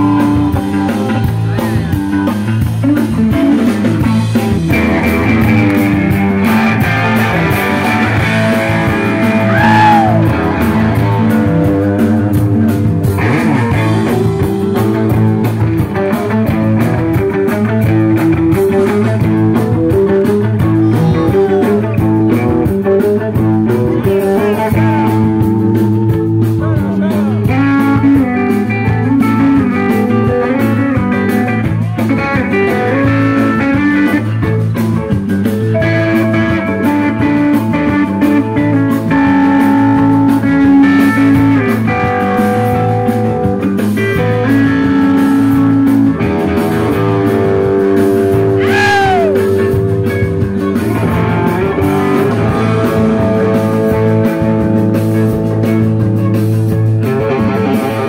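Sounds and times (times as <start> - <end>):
electric guitar notes: 0.0 - 58.0
live rock band playing: 0.0 - 58.0.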